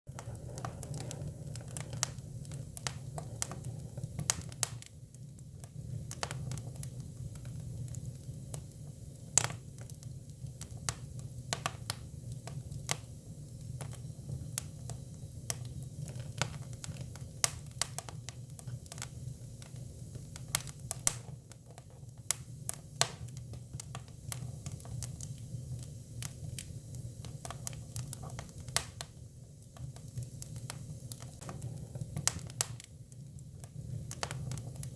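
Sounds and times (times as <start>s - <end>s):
firewood crackling and popping: 0.1s - 34.9s
low rumble of fire: 0.1s - 34.9s.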